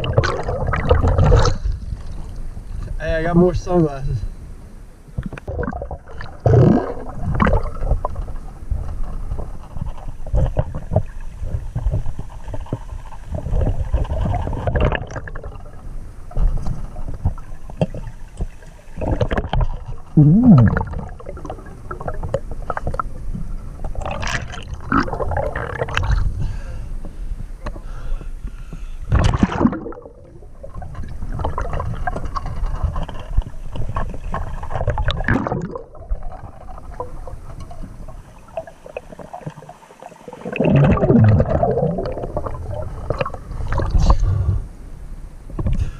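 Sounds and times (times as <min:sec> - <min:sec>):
underwater gurgling and bubbling: 0:00.0 - 0:03.0, 0:05.2 - 0:26.7, 0:29.1 - 0:44.7.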